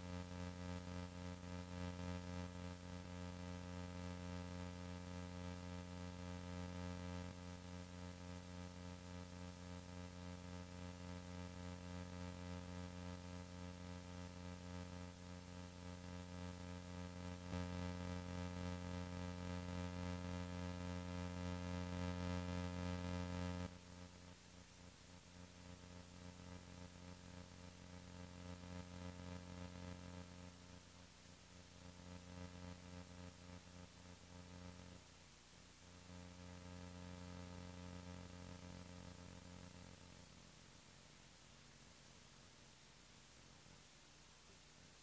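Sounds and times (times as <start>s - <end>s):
electrical hum: 0.0s - 45.0s.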